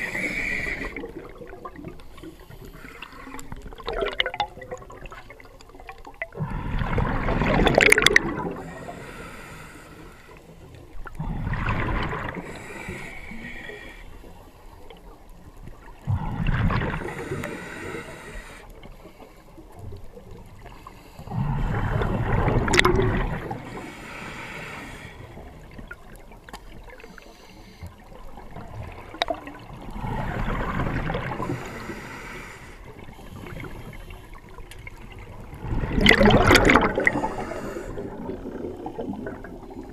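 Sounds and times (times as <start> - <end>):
underwater breath bubbles: 0.0 - 14.4, 16.0 - 19.5, 20.6 - 26.1, 26.9 - 39.9.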